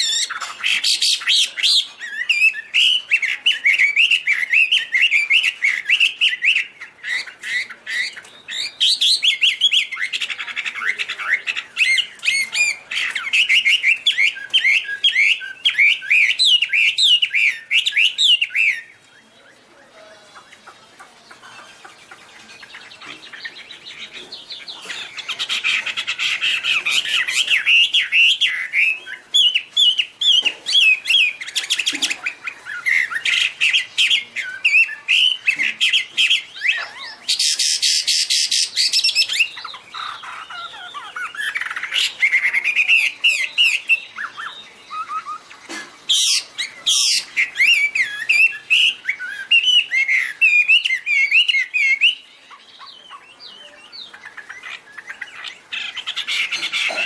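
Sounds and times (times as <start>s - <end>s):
bird singing whistled phrases: 0.0s - 19.6s, 24.6s - 57.0s
harsh rasping bird calls: 0.0s - 57.0s.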